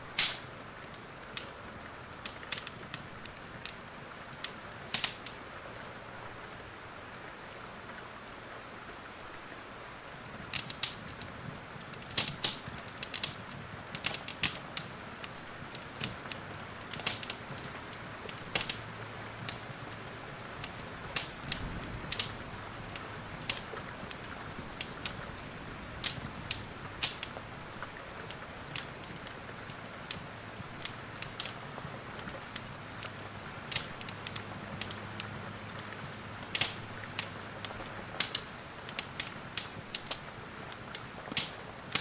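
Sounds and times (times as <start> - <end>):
wood fire crackling: 0.0 - 6.4, 9.2 - 42.0
rain hissing: 0.0 - 42.0.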